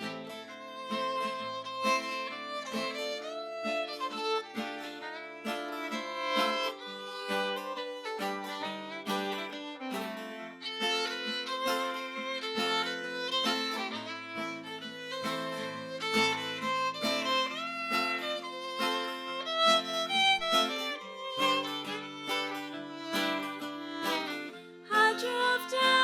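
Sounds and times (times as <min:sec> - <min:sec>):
acoustic guitar accompaniment: 0:00.0 - 0:26.0
fiddle melody: 0:00.0 - 0:26.0.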